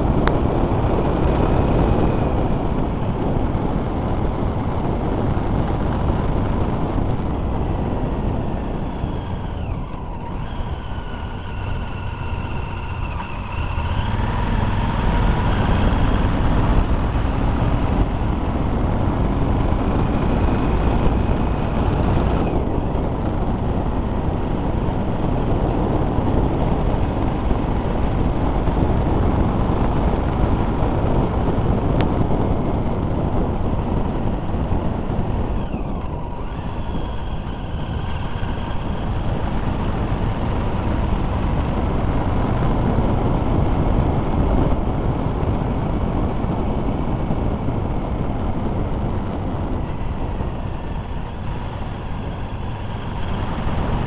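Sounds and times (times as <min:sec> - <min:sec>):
motorcycle engine: 0:00.0 - 0:54.0
wind rush over microphone: 0:00.0 - 0:54.0.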